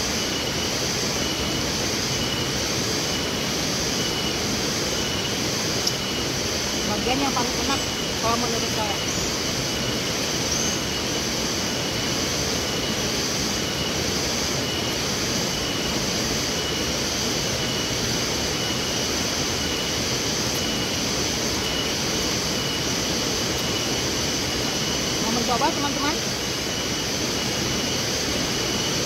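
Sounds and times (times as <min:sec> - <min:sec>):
high pulsing buzz: 0:00.0 - 0:29.0.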